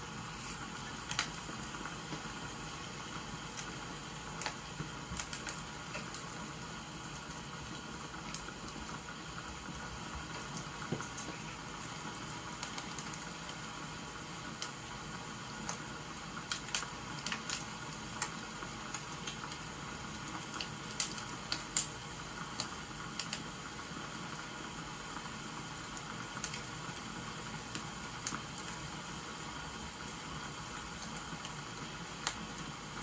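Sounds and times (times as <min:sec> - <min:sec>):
rain hissing: 0:00.0 - 0:33.0
wood fire crackling and popping: 0:00.6 - 0:33.0.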